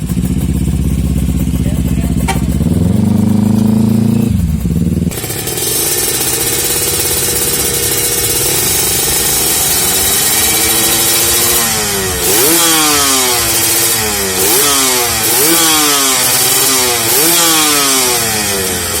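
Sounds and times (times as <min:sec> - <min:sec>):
motorcycle engine throttle blips: 0:00.0 - 0:18.1.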